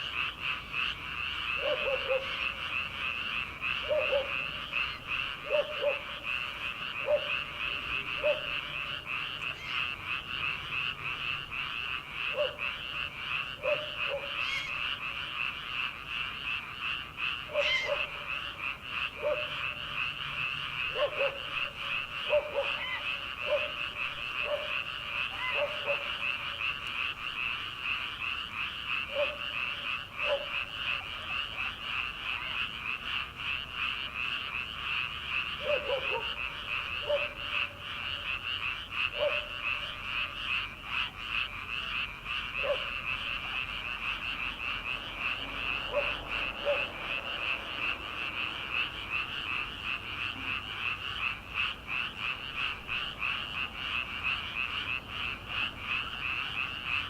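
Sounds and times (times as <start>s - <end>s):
frog chorus croaking: 0.0s - 57.0s
lower-pitched frog calls: 0.0s - 57.0s.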